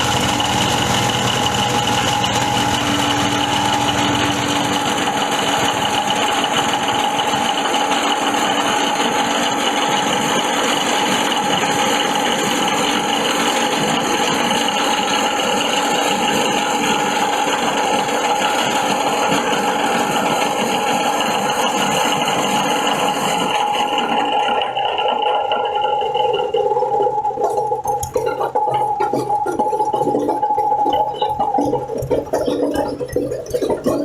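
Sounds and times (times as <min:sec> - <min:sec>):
shredder machine whirring: 0:00.0 - 0:34.0.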